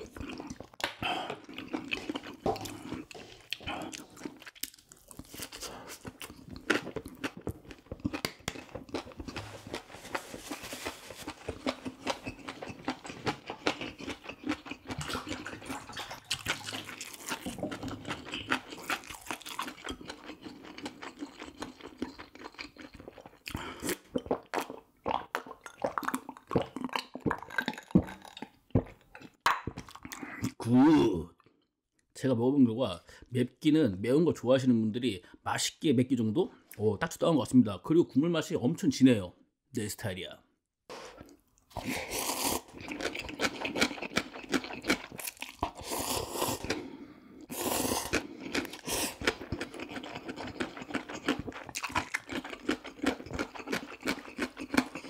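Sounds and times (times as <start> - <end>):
person chewing and crunching food: 0.0 - 31.6, 40.9 - 55.0.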